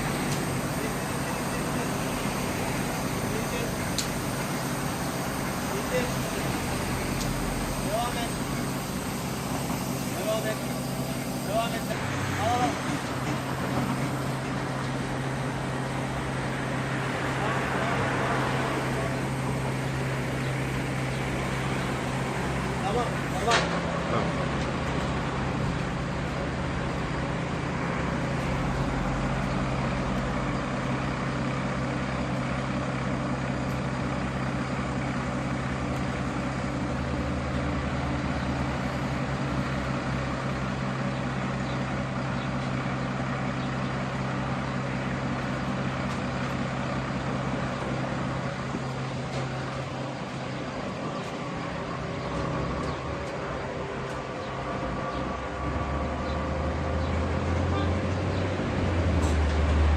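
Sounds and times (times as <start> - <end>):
fire truck engine drone: 0.0 - 59.9.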